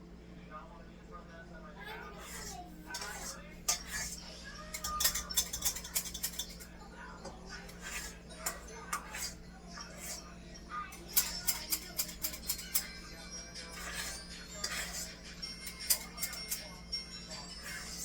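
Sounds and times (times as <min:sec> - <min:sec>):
metal utensils clinking on pot: 0:02.0 - 0:06.8, 0:07.6 - 0:18.0.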